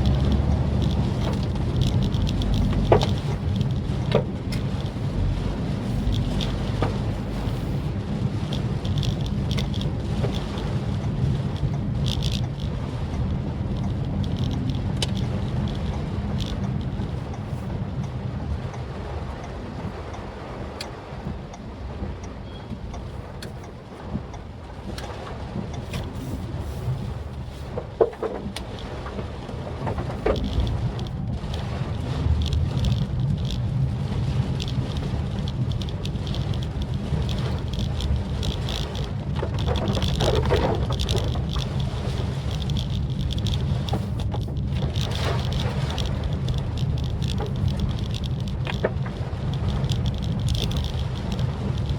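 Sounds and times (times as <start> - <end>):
car engine and road rumble: 0.0 - 51.9
raindrops tapping on car: 0.0 - 51.9.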